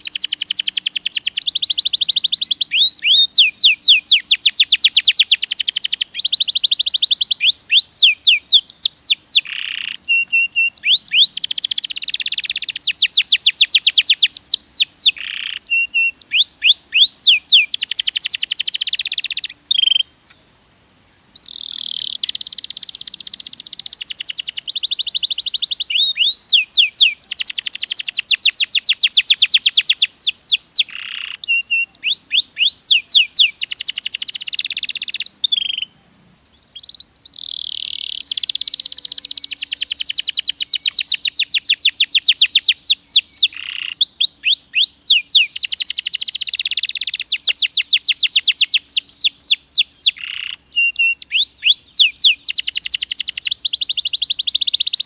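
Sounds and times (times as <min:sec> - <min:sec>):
canary singing trills: 0:00.0 - 0:20.4, 0:21.2 - 0:55.0.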